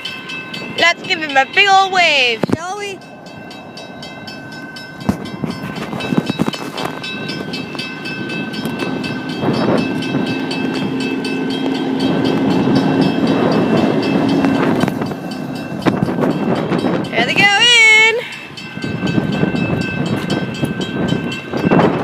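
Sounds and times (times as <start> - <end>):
grade-crossing bells ringing: 0.0 - 22.0
truck rumbling on rails: 0.0 - 22.0.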